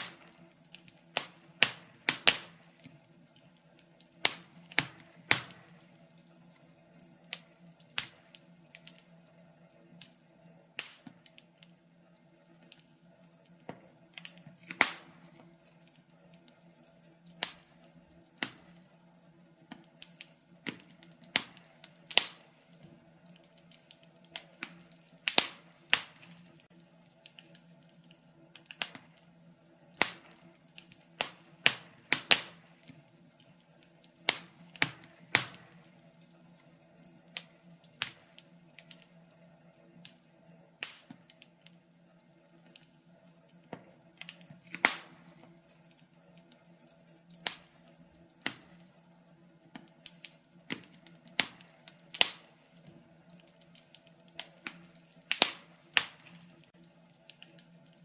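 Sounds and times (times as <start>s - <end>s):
wood fire popping and snapping: 0.0s - 58.0s.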